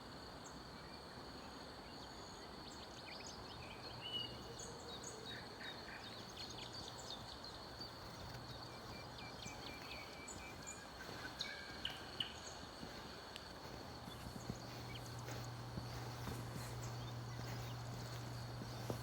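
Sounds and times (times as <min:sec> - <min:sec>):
steady background hiss: 0:00.0 - 0:19.0
songbirds chirping: 0:00.3 - 0:19.0.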